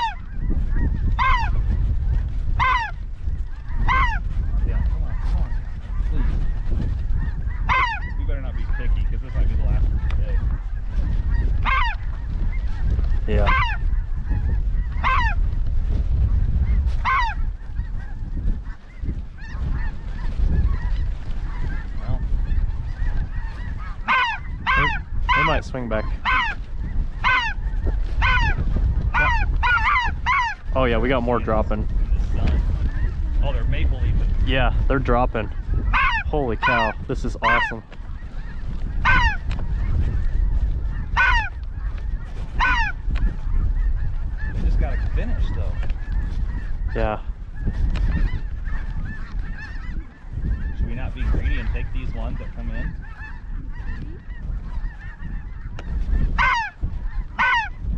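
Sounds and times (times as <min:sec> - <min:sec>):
goose honks falling in pitch: 0:00.0 - 0:01.8, 0:02.6 - 0:15.5, 0:16.6 - 0:30.8, 0:35.5 - 0:57.9
distant goose flock calling: 0:00.0 - 0:57.9
wind rumble on microphone: 0:00.0 - 0:57.9.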